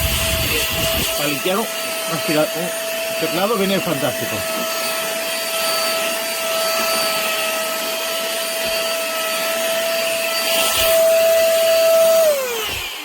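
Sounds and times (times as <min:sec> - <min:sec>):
handheld vacuum motor whining: 0:00.0 - 0:13.0.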